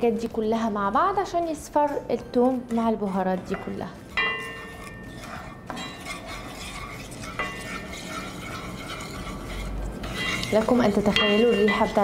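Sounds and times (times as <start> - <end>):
wooden spoon scraping a pot: 0.6 - 12.0.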